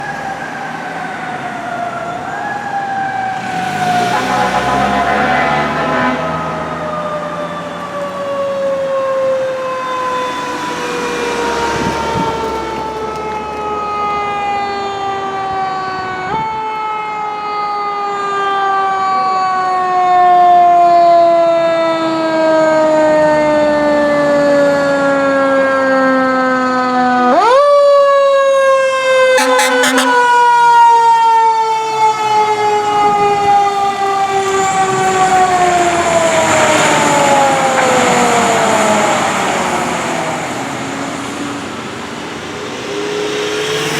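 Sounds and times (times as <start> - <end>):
fire engine siren wailing: 0.0 - 43.9.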